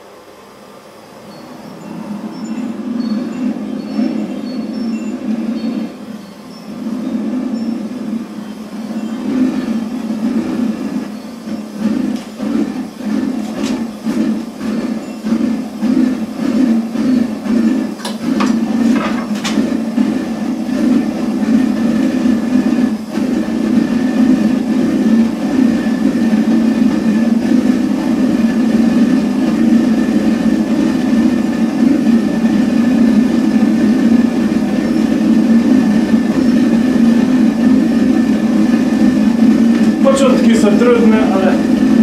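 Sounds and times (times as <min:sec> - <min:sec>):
electric blower humming: 0:00.0 - 0:42.0
gas burner roaring: 0:00.0 - 0:42.0
burner crackles: 0:01.8 - 0:42.0.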